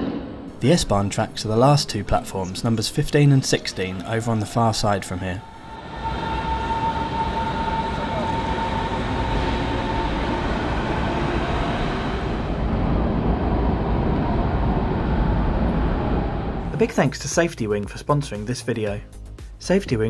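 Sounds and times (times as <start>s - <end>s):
thin high whine: 0.0s - 17.2s
train rumble: 0.0s - 18.0s.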